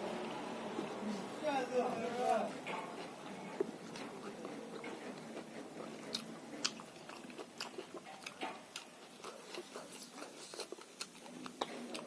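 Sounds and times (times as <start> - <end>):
close-miked chewing and crunching: 0.0 - 12.0.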